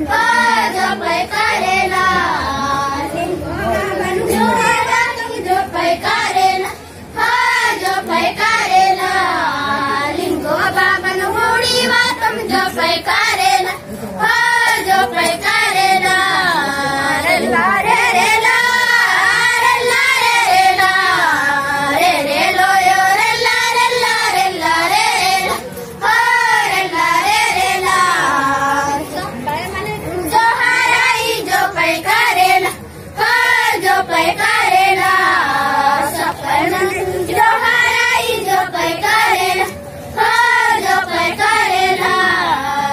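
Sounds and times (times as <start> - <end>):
girls singing in unison: 0.0 - 42.9.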